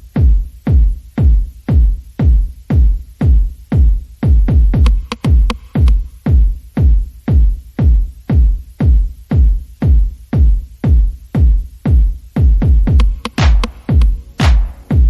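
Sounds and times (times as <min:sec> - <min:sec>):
electronic music with heavy kick drum: 0:00.0 - 0:15.0.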